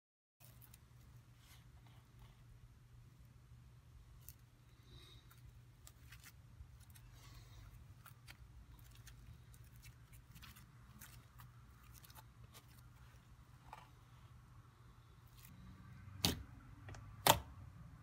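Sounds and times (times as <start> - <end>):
low steady hum: 0.4 - 18.0.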